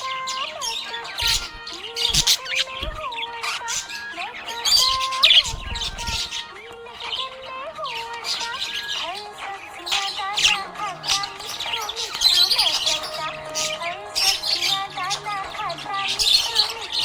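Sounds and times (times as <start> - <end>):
budgerigars chirping and warbling: 0.0 - 17.0.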